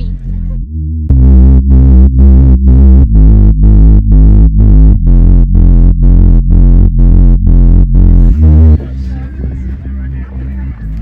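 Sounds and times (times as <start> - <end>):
music with pulsing bass: 0.0 - 11.0.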